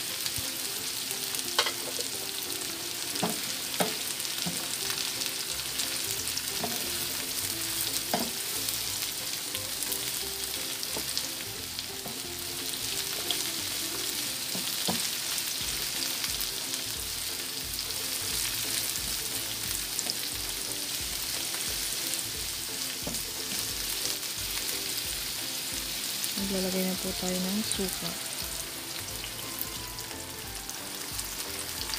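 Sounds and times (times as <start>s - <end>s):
vegetables sizzling in oil: 0.0s - 31.9s.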